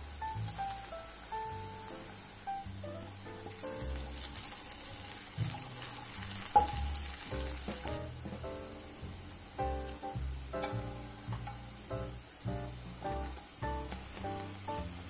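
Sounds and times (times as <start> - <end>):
music with plucked notes and bass: 0.0 - 4.6, 5.2 - 15.0
onions sizzling in butter: 0.0 - 15.0.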